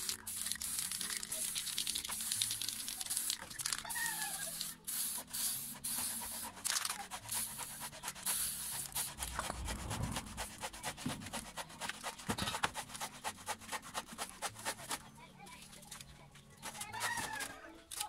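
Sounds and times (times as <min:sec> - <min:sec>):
spray paint can hissing bursts: 0:00.0 - 0:15.0.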